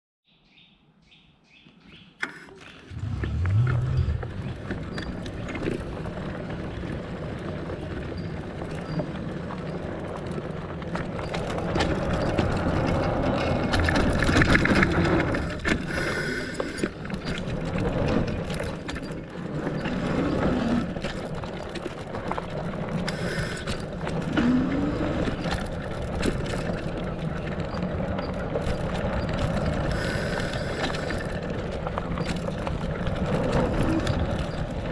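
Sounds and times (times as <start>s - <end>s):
bike clicks and knocks: 1.6s - 34.9s
bike tyres rolling on dirt: 2.7s - 34.9s.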